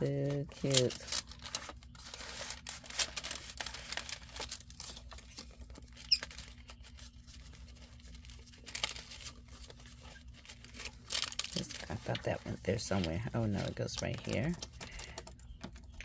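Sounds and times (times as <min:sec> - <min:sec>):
paper and card rustling: 0:00.0 - 0:15.8.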